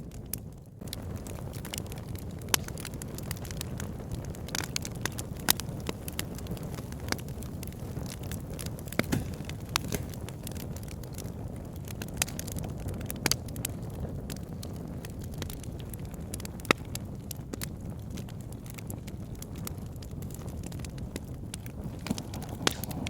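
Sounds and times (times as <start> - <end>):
fire crackling and popping: 0.0 - 23.0
wood fire rumbling: 0.0 - 23.0.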